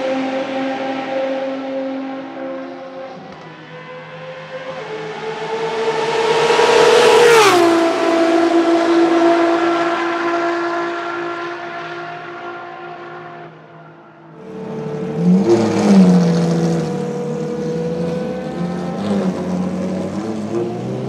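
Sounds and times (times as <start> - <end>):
race car engine passing: 0.0 - 13.7, 14.4 - 21.0.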